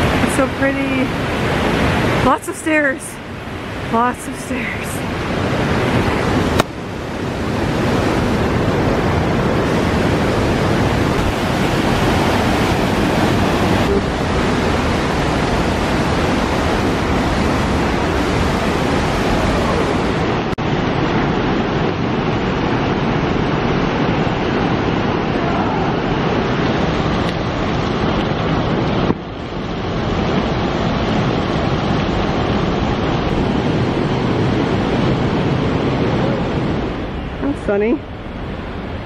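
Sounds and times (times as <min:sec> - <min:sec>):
waterfall rushing: 0:00.0 - 0:37.8.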